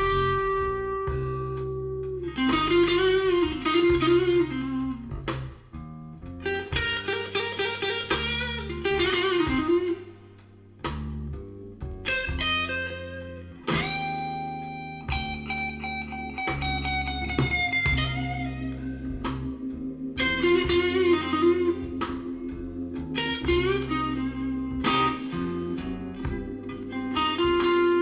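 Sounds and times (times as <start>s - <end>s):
bass and drums: 0.0s - 28.0s
blues-rock electric guitar: 0.0s - 28.0s.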